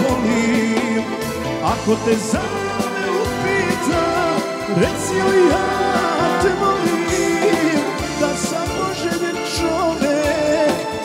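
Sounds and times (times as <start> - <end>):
bending lead melody: 0.0 - 11.0
keyboard chords: 0.0 - 11.0
steady drum beat: 0.0 - 11.0.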